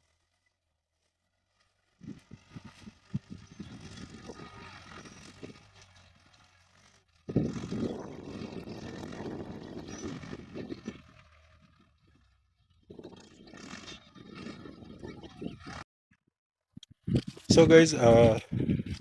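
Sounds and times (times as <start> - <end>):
tractor engine running: 0.0 - 15.8, 17.1 - 19.0.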